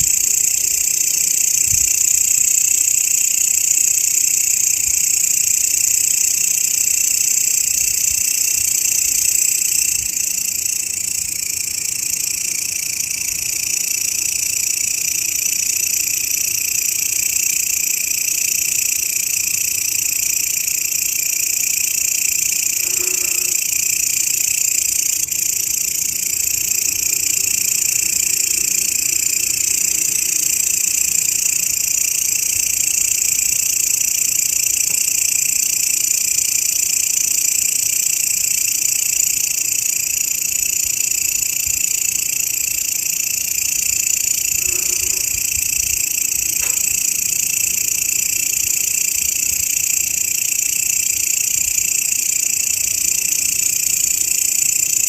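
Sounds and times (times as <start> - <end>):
grasshopper buzzing drone: 0.0 - 55.0.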